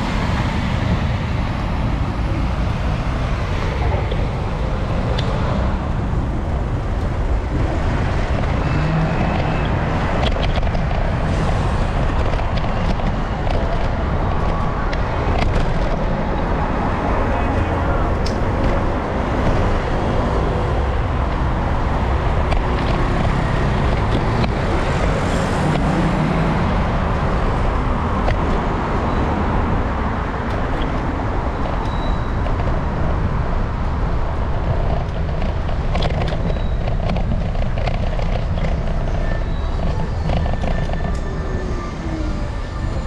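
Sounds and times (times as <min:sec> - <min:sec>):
city street traffic rumble: 0:00.0 - 0:43.0.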